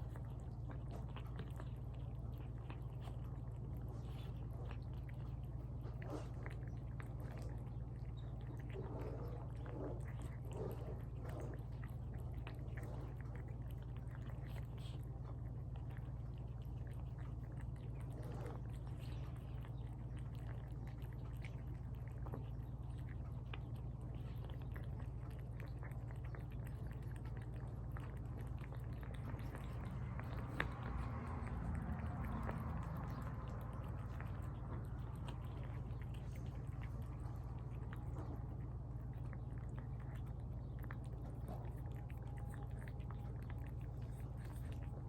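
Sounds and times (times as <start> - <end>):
cats chewing and lapping: 0.0 - 45.0
steady low hum: 0.0 - 45.0.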